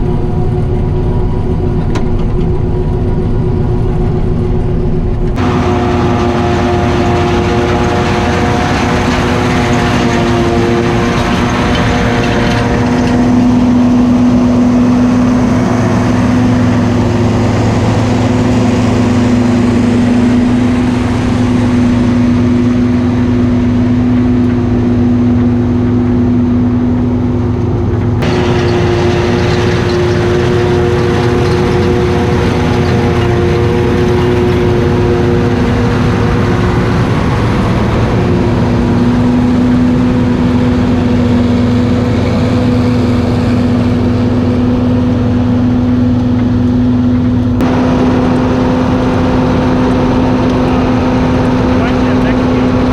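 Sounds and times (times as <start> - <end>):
farm machinery engine running: 0.0 - 52.9.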